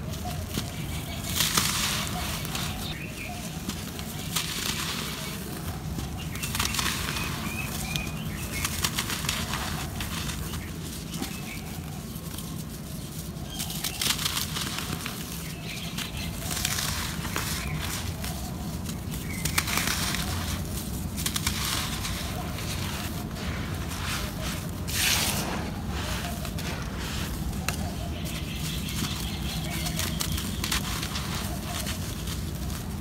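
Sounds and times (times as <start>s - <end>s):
powdery soil pouring: 0.0s - 13.0s, 13.9s - 33.0s.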